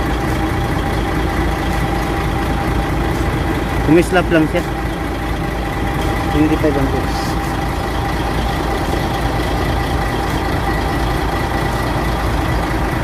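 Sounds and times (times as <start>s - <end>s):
thin steady whine: 0.0s - 13.0s
truck engine idling: 0.0s - 13.0s.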